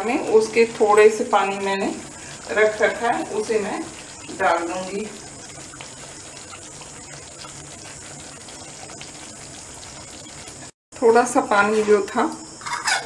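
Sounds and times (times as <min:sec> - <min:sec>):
gravy simmering: 0:00.0 - 0:10.8.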